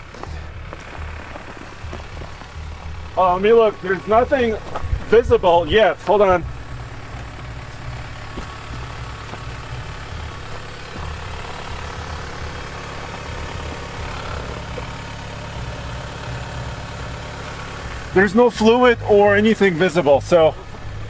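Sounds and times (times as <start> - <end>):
pickup truck idling: 0.0 - 21.0.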